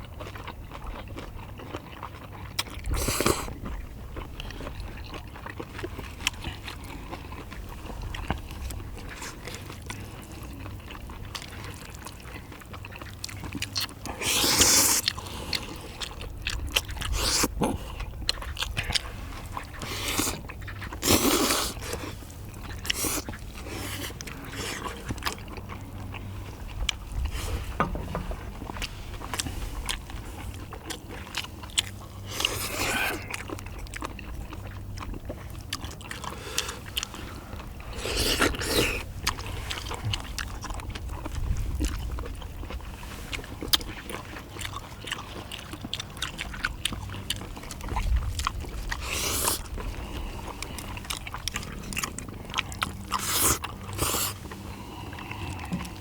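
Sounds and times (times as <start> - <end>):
chewing and biting food: 0.0 - 56.0.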